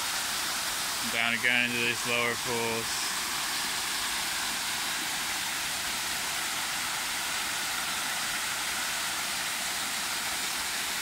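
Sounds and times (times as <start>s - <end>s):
waterfall cascading down rocks: 0.0s - 11.0s.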